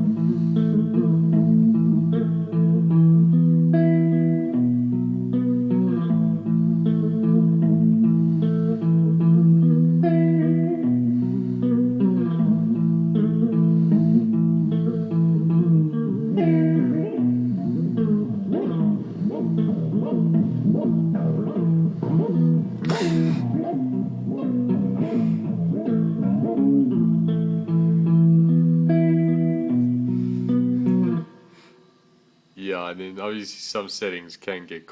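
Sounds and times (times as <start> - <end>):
guitar with wavering vibrato: 0.0 - 32.6.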